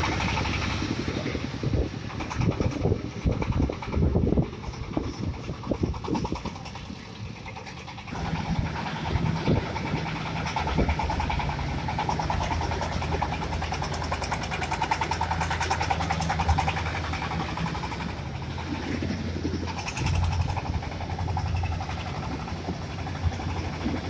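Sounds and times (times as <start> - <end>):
machine engine chugging: 0.0 - 24.0.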